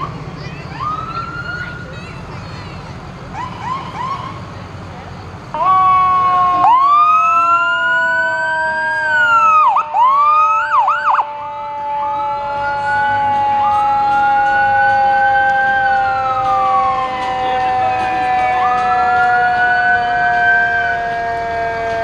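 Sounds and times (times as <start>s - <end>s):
fire engine siren: 0.0s - 22.0s.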